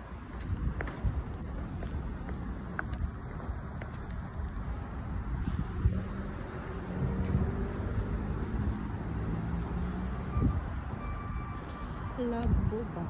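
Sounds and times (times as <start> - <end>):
vehicle traffic rumble: 0.0 - 13.0.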